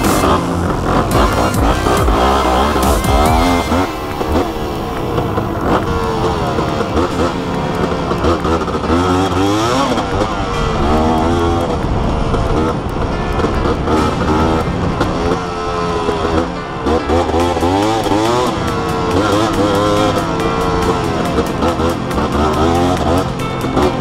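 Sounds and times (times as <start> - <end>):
background music: 0.0 - 24.0
motorcycle engine revving: 0.0 - 24.0.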